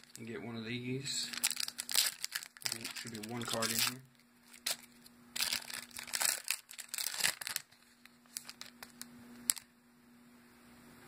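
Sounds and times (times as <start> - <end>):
foil wrapper crinkling: 0.0 - 0.4, 1.2 - 9.7.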